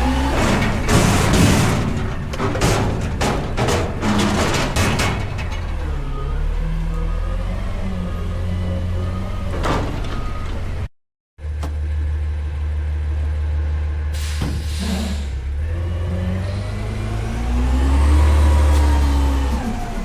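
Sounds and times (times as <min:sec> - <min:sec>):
garbage truck diesel engine: 0:00.0 - 0:20.0.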